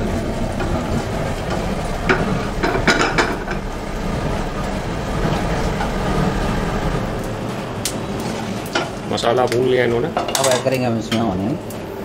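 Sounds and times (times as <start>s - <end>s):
low kitchen rumble: 0.0s - 12.0s.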